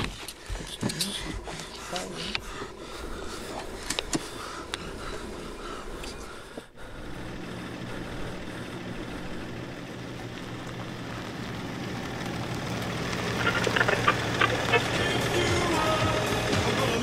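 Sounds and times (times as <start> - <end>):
van engine humming inside cabin: 0.0 - 17.0.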